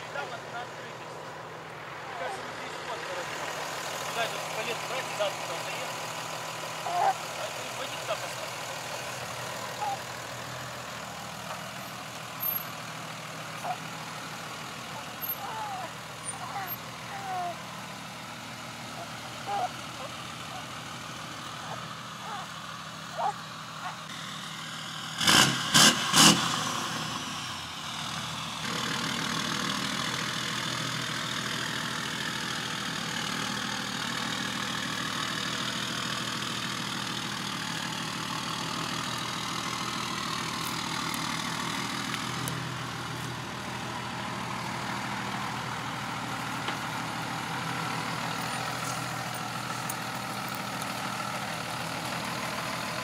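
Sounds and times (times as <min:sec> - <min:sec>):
vehicle engine humming: 0:00.0 - 0:53.0.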